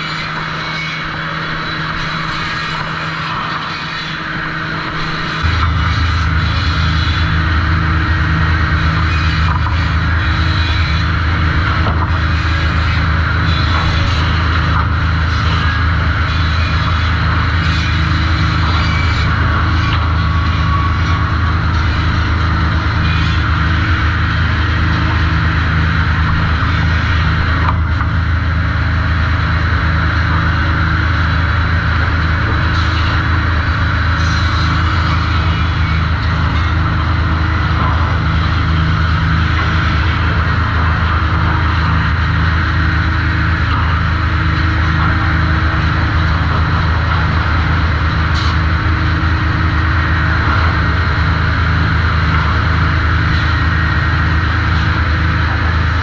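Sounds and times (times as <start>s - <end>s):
sawmill machinery hum: 0.0s - 56.0s
steady machinery hiss: 0.0s - 56.0s.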